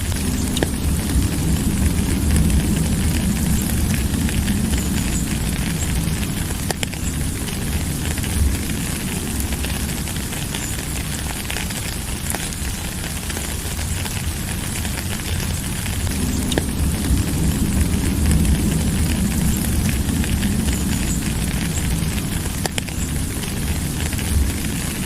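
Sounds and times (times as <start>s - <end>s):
deep low rumble: 0.0s - 25.0s
raindrop clicks: 0.0s - 25.0s
steady rain hiss: 0.0s - 25.0s.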